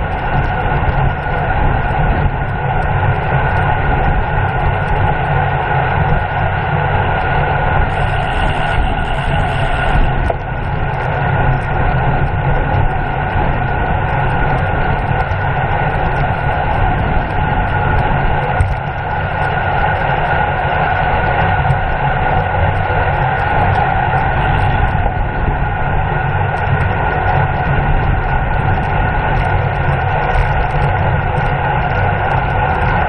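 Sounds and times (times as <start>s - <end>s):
steady hum: 0.0s - 33.0s
wind buffeting microphone: 0.0s - 33.0s.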